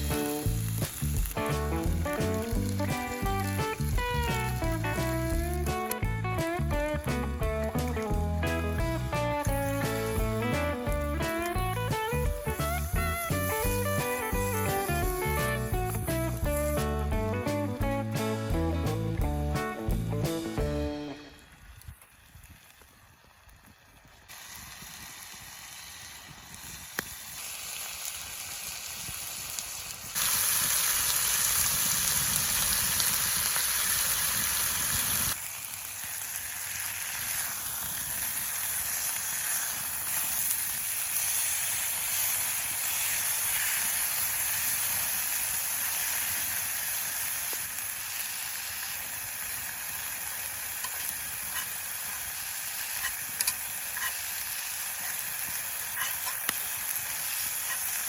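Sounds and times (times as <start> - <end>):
faint fire crackles: 0.0 - 58.0
steak sizzling over a campfire: 0.0 - 58.0.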